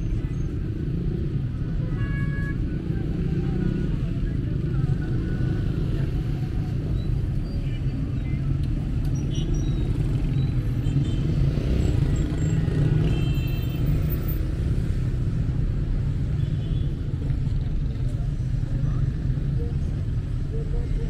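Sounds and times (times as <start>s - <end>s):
cars and motorbikes passing: 0.0s - 21.0s.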